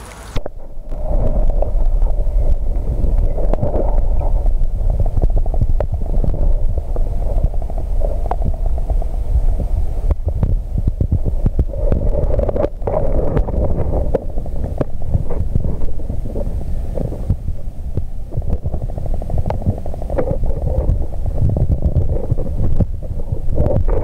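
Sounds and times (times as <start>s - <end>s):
muffled underwater rumble: 0.0s - 24.0s.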